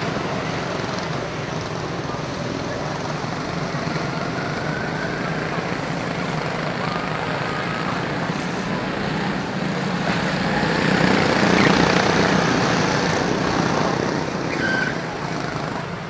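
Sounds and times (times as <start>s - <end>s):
small race car engines buzzing: 0.0s - 16.0s.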